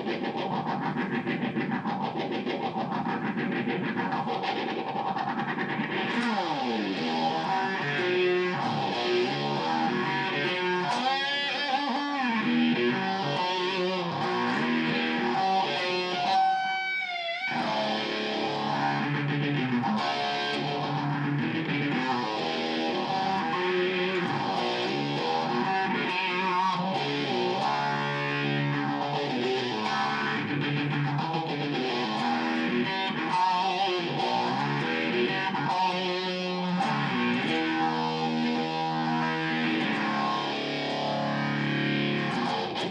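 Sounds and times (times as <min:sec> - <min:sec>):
electric guitar with effects: 0:00.0 - 0:42.9.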